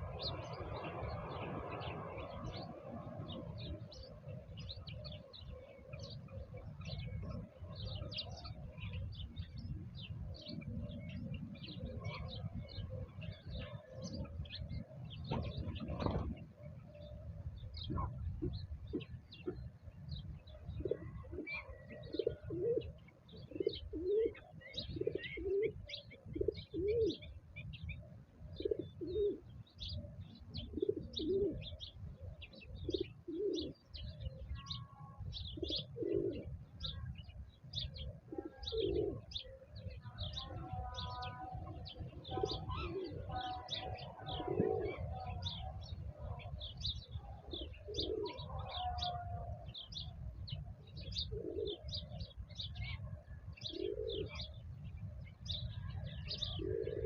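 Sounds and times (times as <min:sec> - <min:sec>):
low cooing bird call: 0:00.0 - 0:57.0
small birds chirping: 0:00.0 - 0:57.0.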